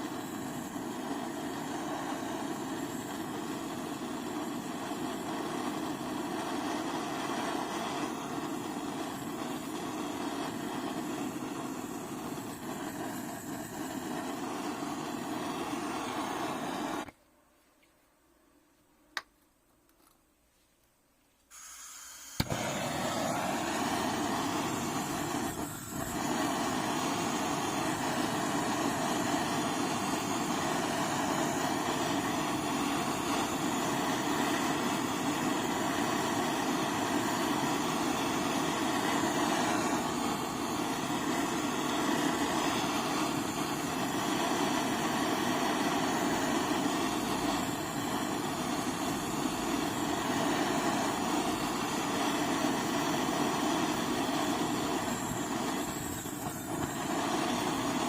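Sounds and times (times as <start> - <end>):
motor-driven blower running: 0.0 - 17.1, 21.6 - 58.0.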